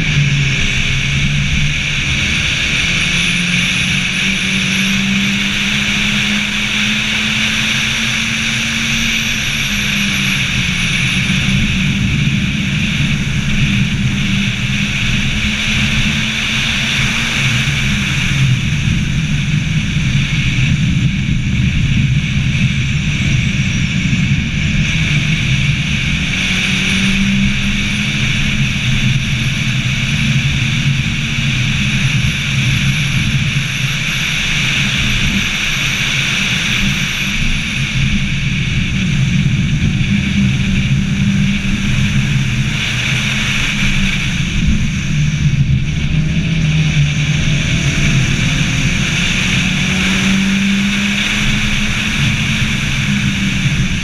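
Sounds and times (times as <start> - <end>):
rally car engine revving: 0.0 - 54.0
steady rushing noise: 0.0 - 54.0.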